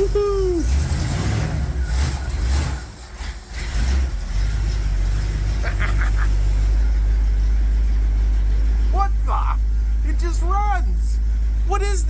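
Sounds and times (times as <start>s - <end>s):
old car engine rumbling: 0.0s - 12.0s.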